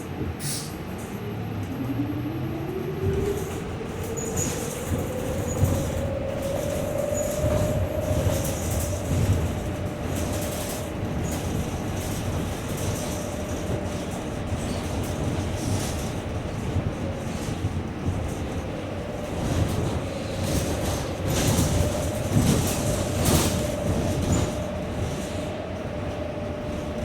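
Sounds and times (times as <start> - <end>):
road rumble: 0.0 - 27.0
bus body rattling: 3.0 - 27.0.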